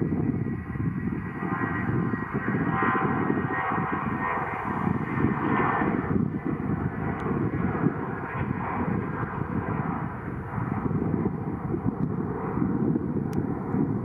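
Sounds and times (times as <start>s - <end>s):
aircraft engines rumbling: 0.0s - 14.0s.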